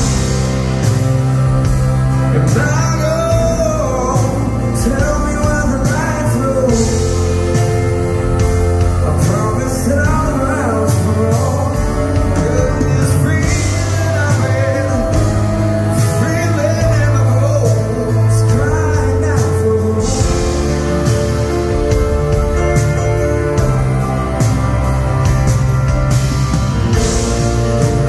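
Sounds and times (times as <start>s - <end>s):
man singing: 0.0s - 26.2s
drum kit: 0.0s - 28.0s
grand piano: 0.0s - 28.0s.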